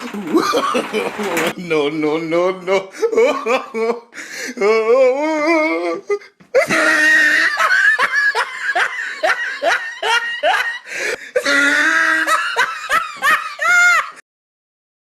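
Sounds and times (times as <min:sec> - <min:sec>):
person laughing hard: 0:00.0 - 0:01.6, 0:02.7 - 0:14.2.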